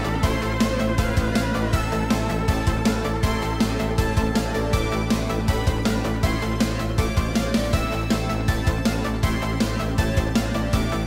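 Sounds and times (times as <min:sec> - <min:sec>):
music with steady beat and bass: 0:00.0 - 0:11.0.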